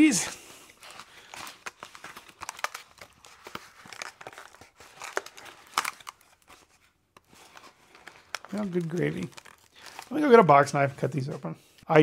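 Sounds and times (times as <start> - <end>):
packaging crinkling and tearing: 0.4 - 11.3.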